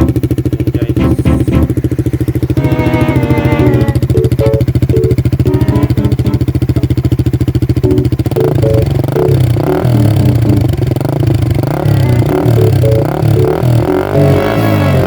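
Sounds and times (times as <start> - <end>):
engine throttle blips: 0.0 - 15.0
motorcycle engine idling: 0.0 - 15.0.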